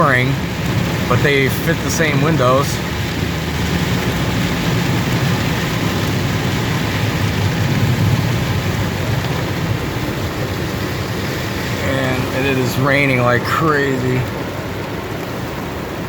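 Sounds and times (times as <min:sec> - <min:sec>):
car low hum: 0:00.0 - 0:16.0
heavy rain on a car: 0:00.0 - 0:16.0.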